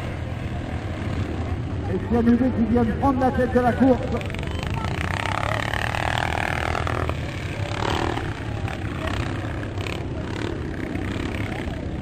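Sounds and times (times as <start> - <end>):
motocross engines racing: 0.0 - 12.0.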